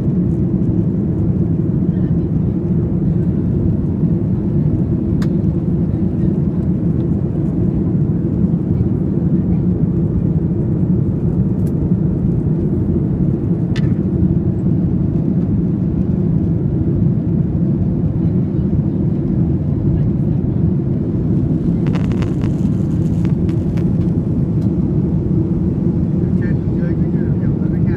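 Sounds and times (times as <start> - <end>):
airplane engines rumbling: 0.0 - 27.9.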